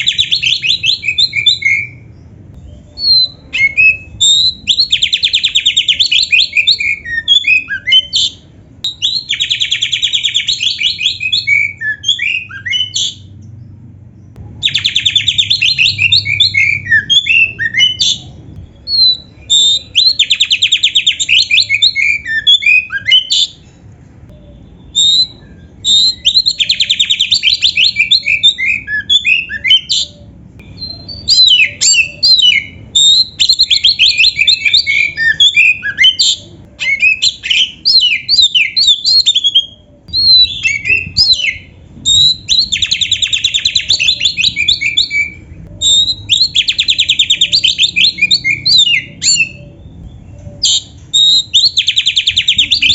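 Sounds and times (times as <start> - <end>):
songbird singing trills and whistles: 0.0 - 52.9.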